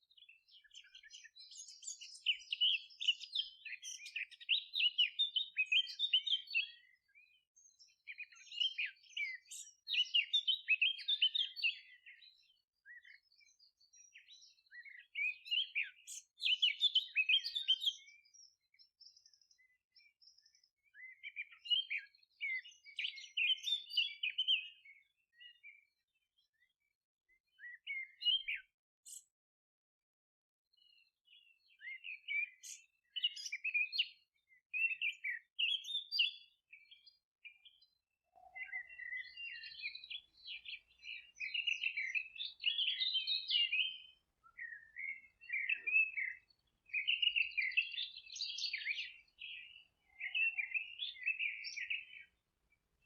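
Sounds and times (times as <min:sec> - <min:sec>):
songbirds twittering: 0:00.0 - 0:29.4, 0:30.7 - 0:53.0.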